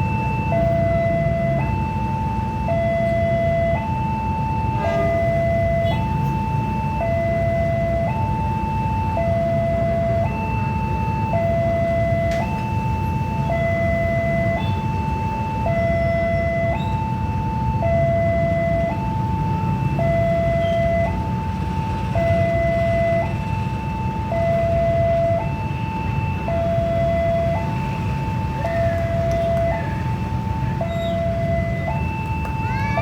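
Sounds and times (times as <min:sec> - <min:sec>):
two-tone crossing alarm: 0:00.0 - 0:33.0
vehicle engines rumbling: 0:00.0 - 0:33.0.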